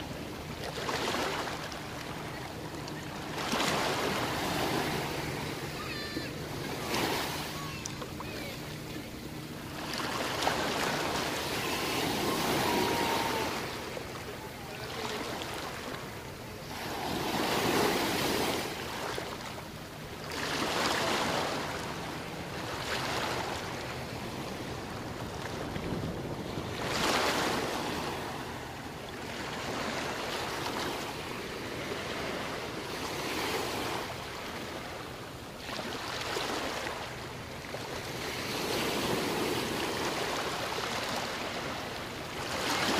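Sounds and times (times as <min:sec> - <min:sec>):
small waves breaking on beach: 0:00.0 - 0:42.9.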